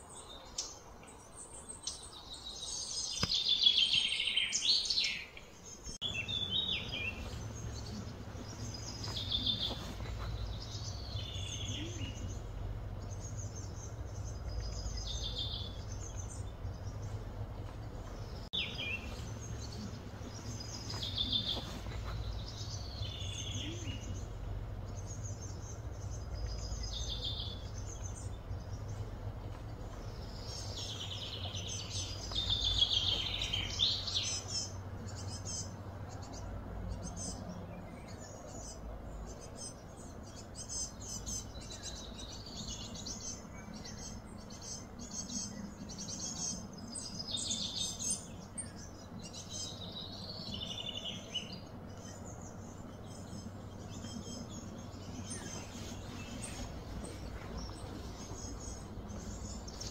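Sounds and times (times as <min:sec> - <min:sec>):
songbird singing: 0:00.0 - 0:59.9
steady low rumble: 0:05.8 - 0:59.9.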